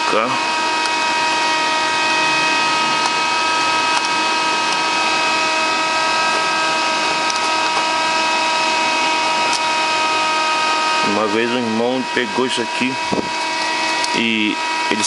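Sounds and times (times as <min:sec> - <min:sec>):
electric fan whirring: 0:00.0 - 0:15.0
high whining tones: 0:00.0 - 0:15.0.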